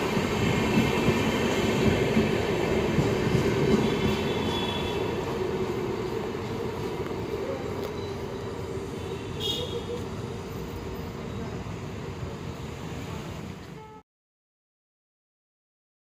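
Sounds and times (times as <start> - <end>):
train rolling on rails: 0.0 - 13.8.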